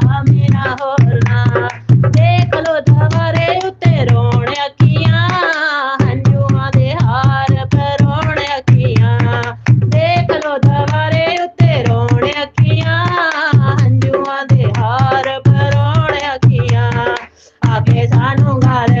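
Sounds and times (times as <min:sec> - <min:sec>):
person singing devotional song: 0:00.0 - 0:19.0
tabla and drum rhythm: 0:00.0 - 0:19.0.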